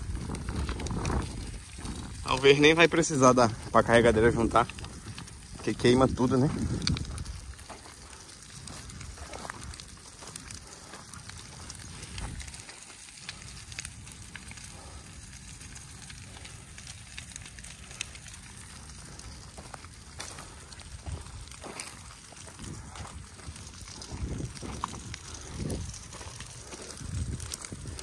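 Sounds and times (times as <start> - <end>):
brush fire crackling and popping: 0.0 - 28.0.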